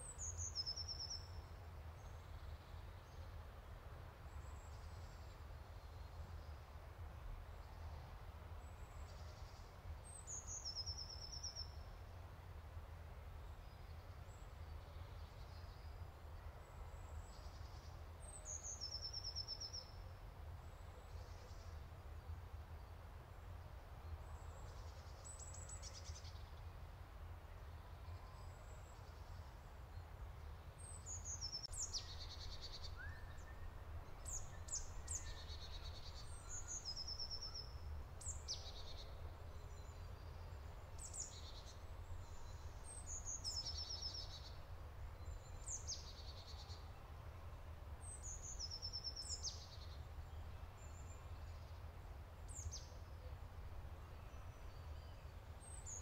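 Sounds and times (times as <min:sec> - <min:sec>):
songbirds singing: 0:00.0 - 0:12.0, 0:13.4 - 0:26.9, 0:27.6 - 0:56.0.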